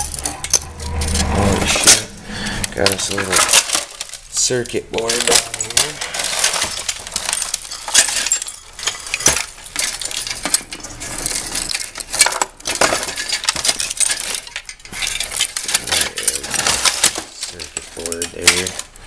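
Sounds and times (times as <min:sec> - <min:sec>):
broken glass and metal clinking: 0:00.0 - 0:19.0.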